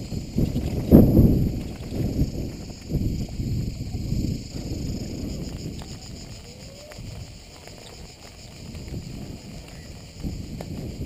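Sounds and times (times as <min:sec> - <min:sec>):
high-pitched insect chorus: 0:00.0 - 0:11.0
low uneven rumble: 0:00.0 - 0:11.0.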